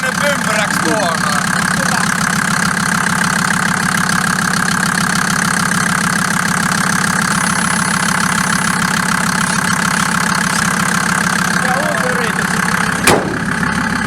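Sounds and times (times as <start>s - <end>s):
diesel engine clattering: 0.0s - 14.0s.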